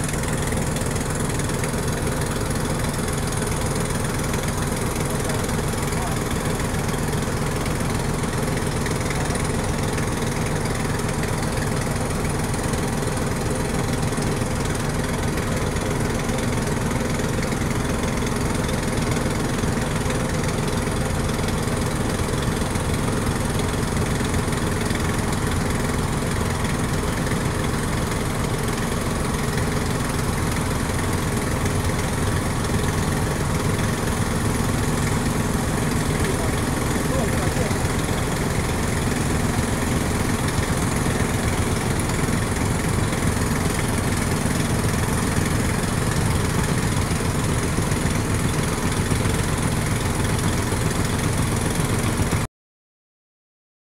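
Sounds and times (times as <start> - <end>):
boat engine idling: 0.0 - 52.5.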